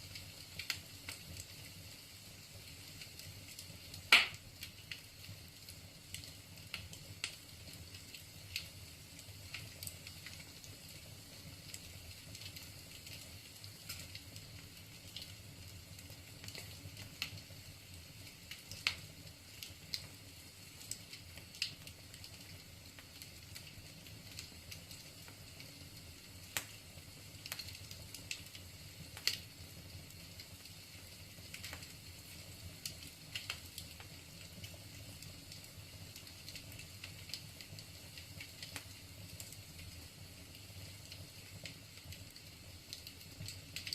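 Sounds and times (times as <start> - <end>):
fire crackles and pops: 0.0 - 43.9
wood fire hissing: 0.0 - 43.9.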